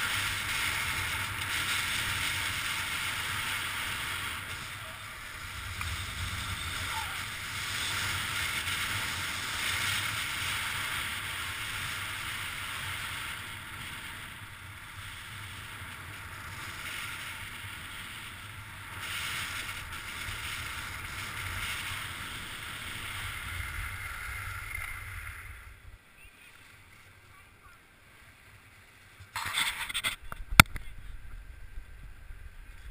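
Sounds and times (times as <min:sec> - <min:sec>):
skis scraping over snow: 0:00.0 - 0:30.2.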